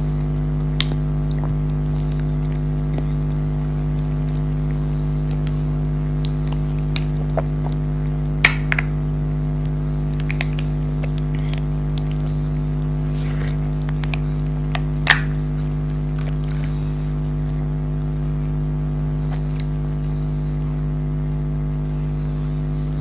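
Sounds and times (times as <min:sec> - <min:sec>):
chewing gummy candy: 0:00.0 - 0:09.0, 0:09.6 - 0:21.0
steady low hum: 0:00.0 - 0:23.0.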